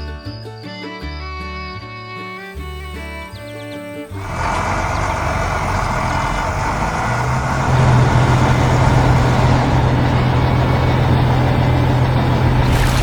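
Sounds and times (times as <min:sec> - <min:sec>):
heavy vehicle engine humming: 0:02.4 - 0:13.0.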